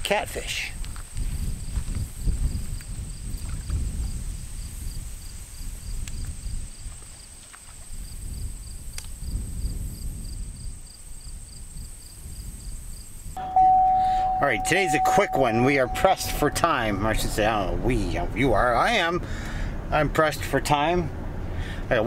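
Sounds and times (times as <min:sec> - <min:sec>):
wind buffeting microphone: 0:00.8 - 0:19.0.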